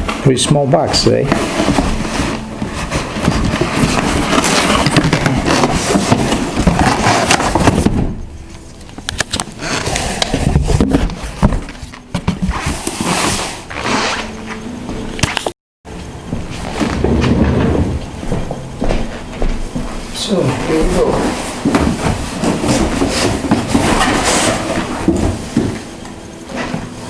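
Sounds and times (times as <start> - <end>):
cardboard scraping and rustling: 0.0 - 15.4, 20.2 - 27.0.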